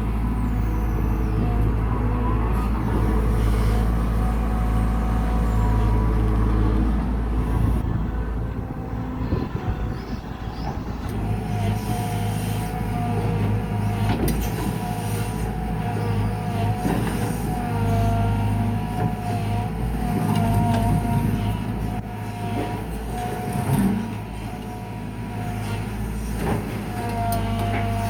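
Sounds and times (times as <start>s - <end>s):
excavator diesel engine humming: 0.0s - 28.0s.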